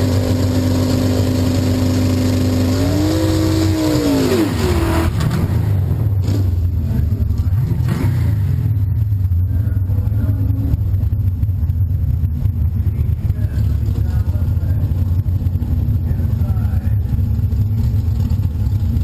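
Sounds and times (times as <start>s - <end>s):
drag car engine revving: 0.0s - 19.0s.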